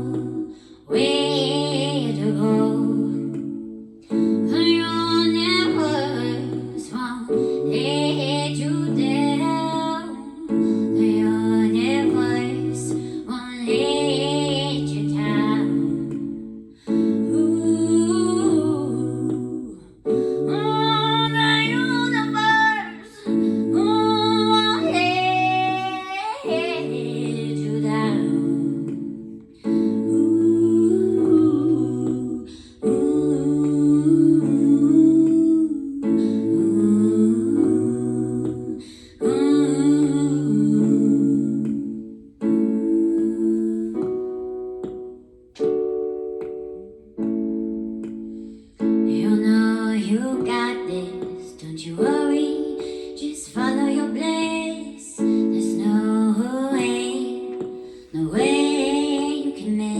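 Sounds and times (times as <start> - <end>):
woman singing wordlessly: 0.0 - 44.3, 49.0 - 59.9
held chords: 0.0 - 59.9.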